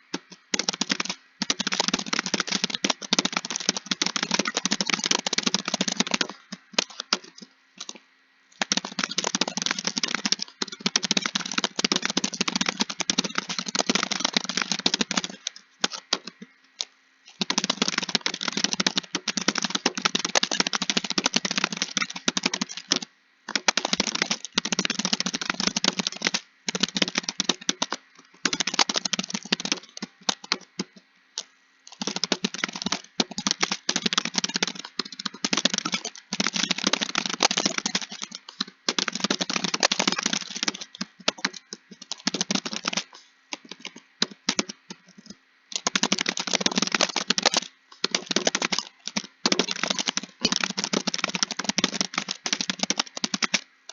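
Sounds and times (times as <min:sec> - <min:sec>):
computer keyboard typing: 0:00.0 - 0:08.0, 0:08.6 - 0:16.5, 0:17.3 - 0:53.6.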